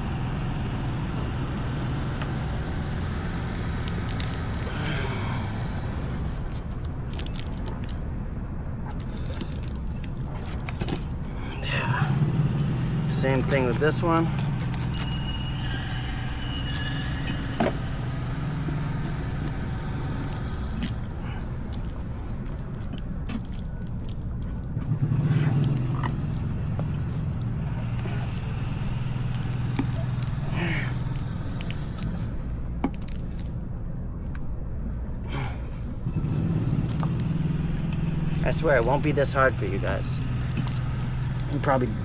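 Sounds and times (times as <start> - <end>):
low hum: 0.0 - 42.0.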